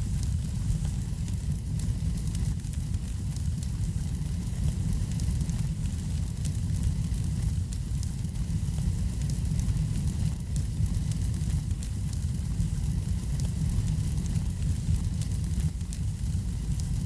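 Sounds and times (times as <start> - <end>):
fire crackling: 0.0 - 17.0
wood fire rumbling: 0.0 - 17.0.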